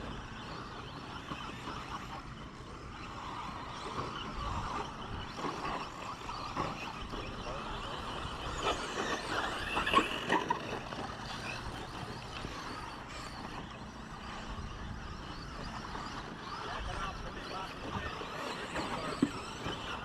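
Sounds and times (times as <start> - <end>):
toy truck motor whine: 0.0 - 20.0.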